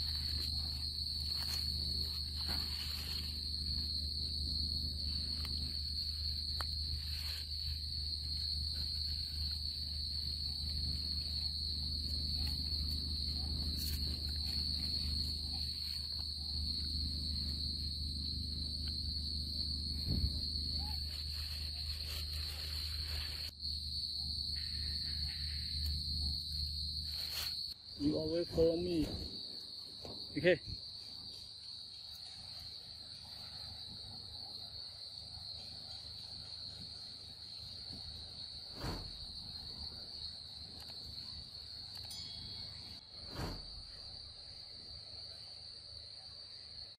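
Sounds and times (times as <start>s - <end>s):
insect chorus trilling: 0.0s - 46.9s.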